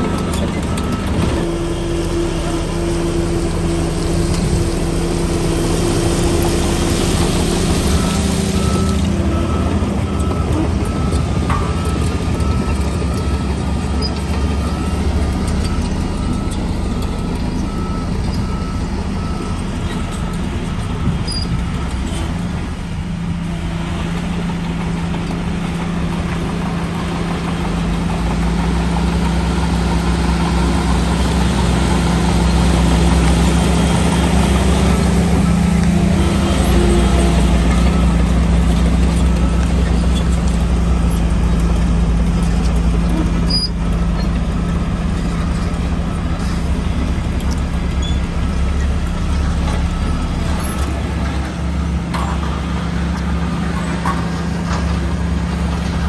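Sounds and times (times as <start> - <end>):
bulldozer diesel engine running: 0.0 - 56.0
reversing alarm beeping: 0.1 - 22.2, 28.6 - 56.0.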